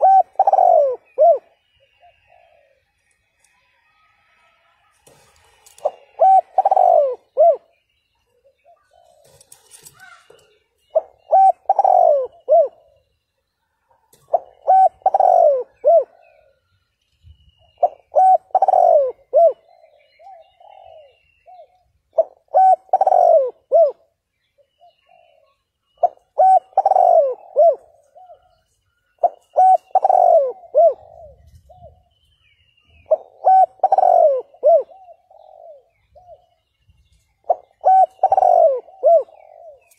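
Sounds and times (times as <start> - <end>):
dove cooing: 0.0 - 2.9, 5.1 - 7.8, 8.4 - 13.1, 14.1 - 16.8, 17.8 - 32.2, 32.9 - 36.7, 37.4 - 39.9.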